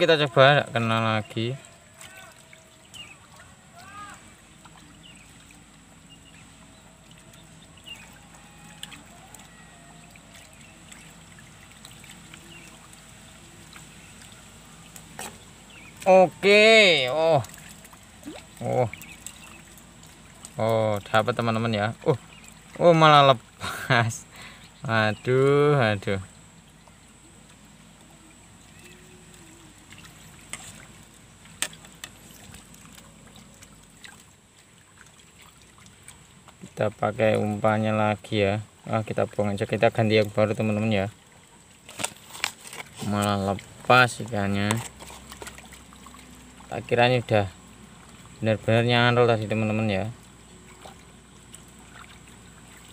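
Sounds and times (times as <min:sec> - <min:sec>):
faint outdoor ambience: 0:00.0 - 0:52.9
faint trickling water: 0:00.0 - 0:52.9.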